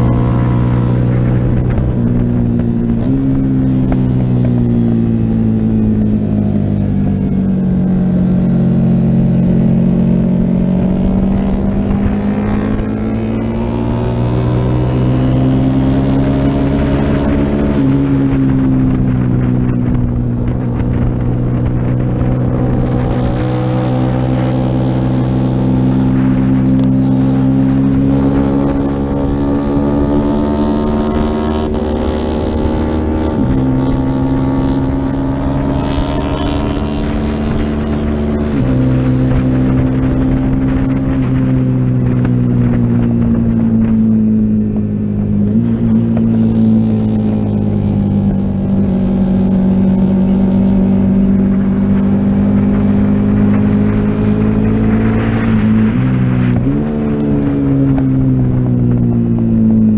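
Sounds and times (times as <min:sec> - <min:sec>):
motorcycle engine at high revs: 0:00.0 - 0:59.9
wind rush: 0:00.0 - 0:59.9.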